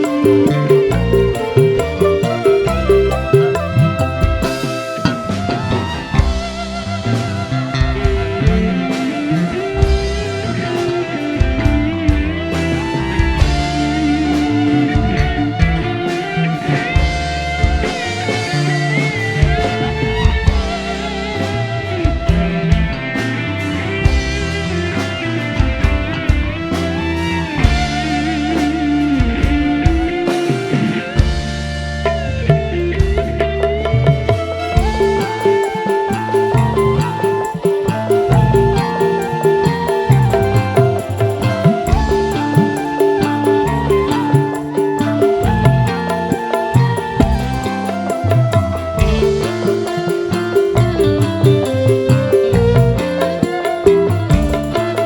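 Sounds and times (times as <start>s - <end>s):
band playing through a pa system: 0.0s - 55.0s
wavering held melody line: 0.0s - 55.0s.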